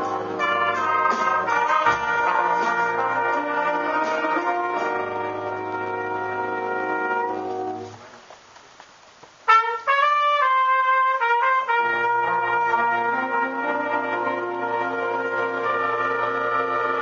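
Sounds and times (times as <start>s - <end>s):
jazz band playing a slow ballad: 0.0s - 8.0s, 9.5s - 17.0s
solo trumpet phrase: 0.0s - 8.0s, 9.5s - 17.0s.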